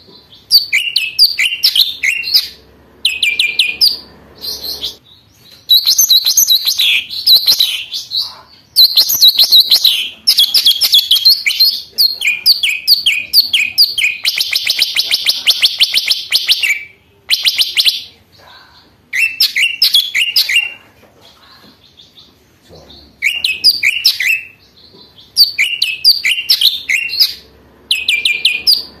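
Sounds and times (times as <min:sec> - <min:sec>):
bird singing high chattering notes: 0:00.0 - 0:20.9, 0:21.8 - 0:29.0.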